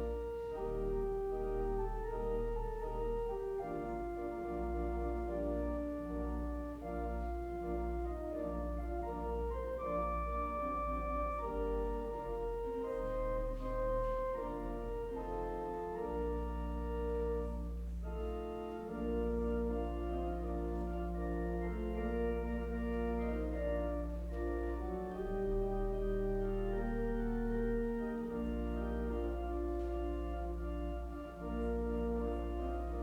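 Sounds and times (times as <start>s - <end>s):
organ playing slow chords: 0.0s - 33.0s.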